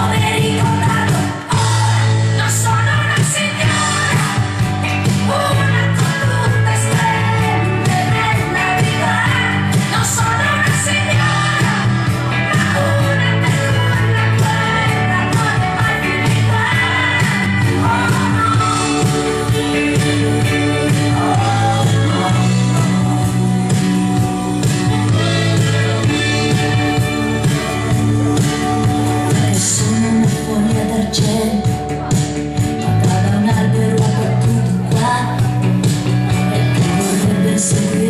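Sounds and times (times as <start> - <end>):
person singing into microphone: 0.0 - 32.2, 32.8 - 38.0
backing track with steady beat: 0.0 - 38.0.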